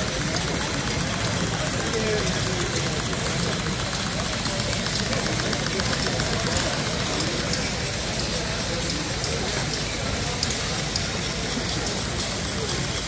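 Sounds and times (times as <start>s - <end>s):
crowd chatter: 0.0s - 13.0s
faint rapid ticking: 0.0s - 13.0s
small model engines clattering: 0.0s - 13.0s.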